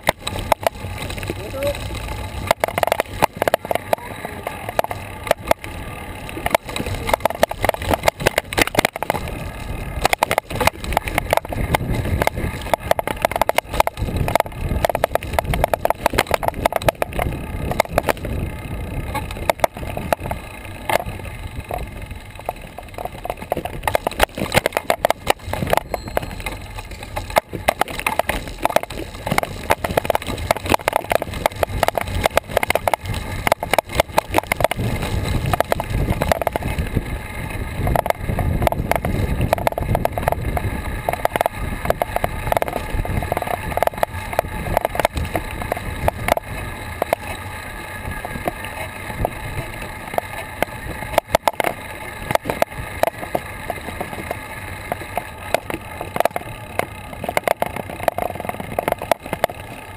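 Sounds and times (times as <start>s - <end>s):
road and wind rumble: 0.0s - 59.9s
camera mount rattling and knocking: 2.4s - 4.0s, 4.6s - 5.7s, 6.3s - 18.3s, 19.1s - 36.9s, 37.8s - 47.4s, 50.1s - 59.7s.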